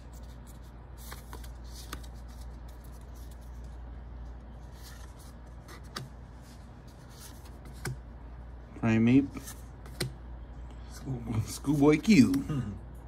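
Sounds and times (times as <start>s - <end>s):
cards rustling and clicking: 0.0s - 8.1s, 9.3s - 12.6s.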